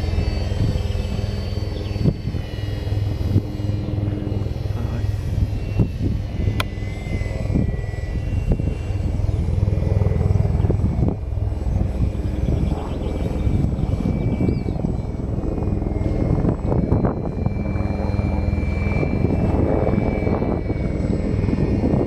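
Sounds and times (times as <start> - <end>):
model plane motor whining: 0.0 - 22.0
wind rumble on microphone: 0.0 - 22.0.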